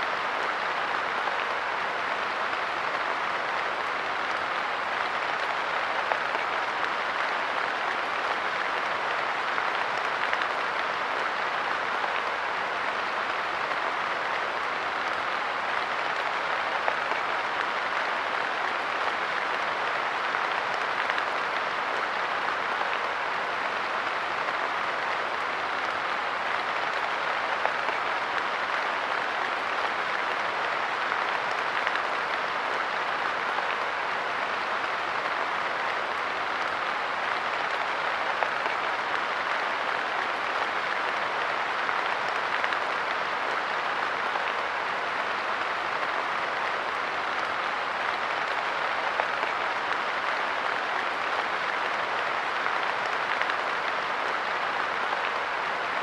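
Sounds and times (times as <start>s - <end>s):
light rain on a bench: 0.1s - 56.0s.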